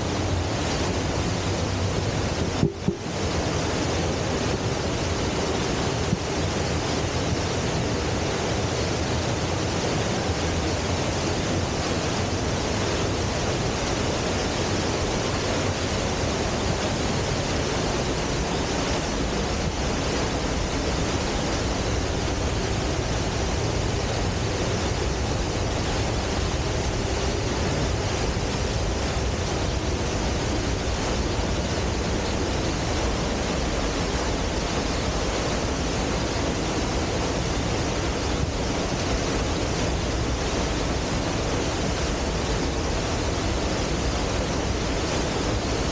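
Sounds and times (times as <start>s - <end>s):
waterfall roaring: 0.0s - 45.9s.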